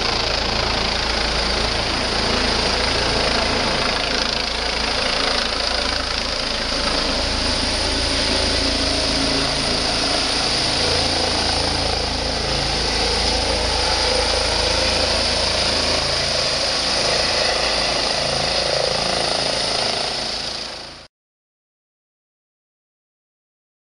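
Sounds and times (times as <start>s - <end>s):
helicopter rotor and turbine: 0.0s - 21.1s.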